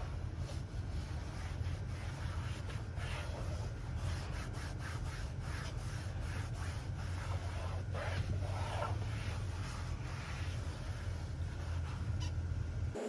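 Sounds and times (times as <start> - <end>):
brush scrubbing sudsy surface: 0.0 - 12.2
steady low hum: 0.0 - 13.0.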